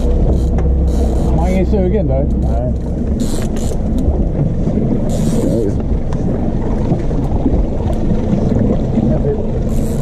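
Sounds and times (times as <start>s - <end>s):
outboard motor running: 0.0s - 10.0s
sea noise: 0.0s - 10.0s.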